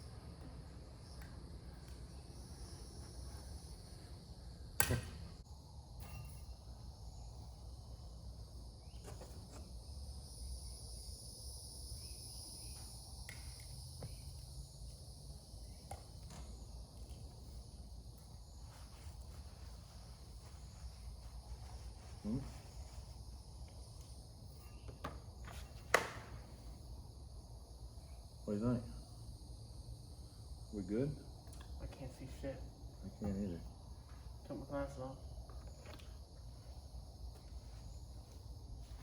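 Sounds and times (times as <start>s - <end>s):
crickets and insects chirring: 0.0s - 39.0s.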